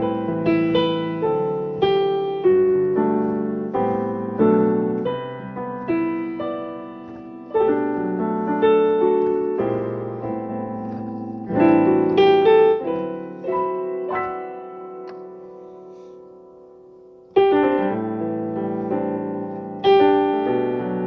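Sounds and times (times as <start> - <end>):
soft piano chords: 0.0 - 21.0.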